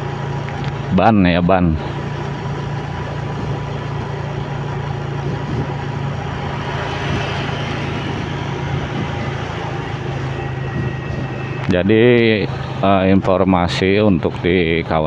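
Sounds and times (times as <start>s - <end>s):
motorcycle engine running: 0.0s - 15.0s
road noise: 0.0s - 15.0s.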